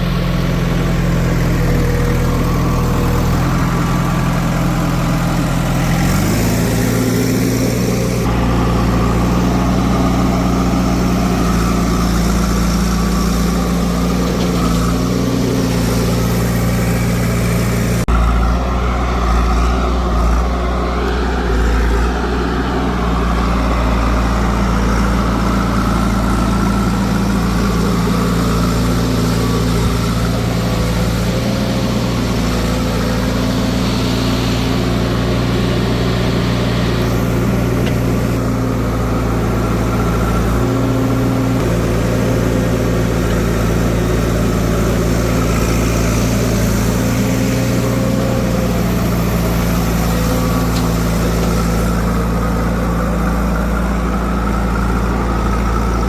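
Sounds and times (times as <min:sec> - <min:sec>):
engine revving: 0:00.0 - 0:56.0
heavy diesel engines running: 0:00.0 - 0:56.0.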